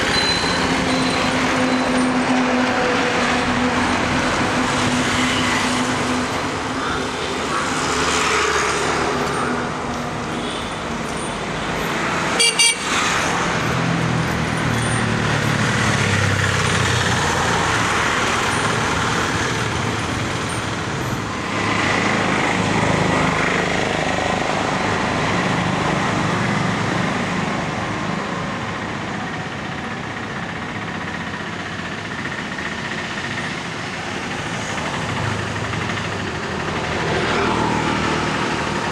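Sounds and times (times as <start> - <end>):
motorbikes and scooters passing: 2.7 - 28.4, 32.9 - 38.9.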